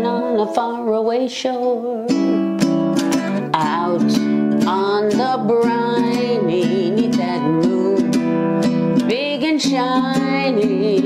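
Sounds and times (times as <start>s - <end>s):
woman singing with vibrato: 0.0s - 2.6s, 3.4s - 11.0s
ukulele strummed: 0.0s - 11.0s.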